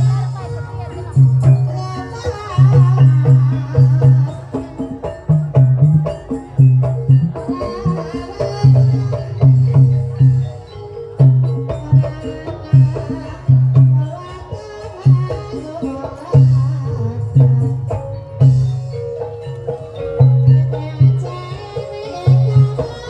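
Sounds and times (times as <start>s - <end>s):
ringing pitched gamelan tones: 0.0s - 23.0s.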